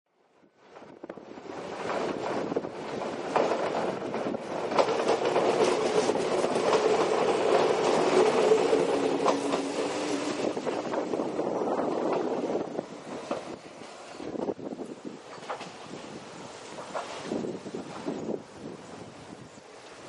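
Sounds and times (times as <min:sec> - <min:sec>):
electric train running past: 0:00.4 - 0:20.0
wheels clacking over rail joints: 0:00.6 - 0:20.0.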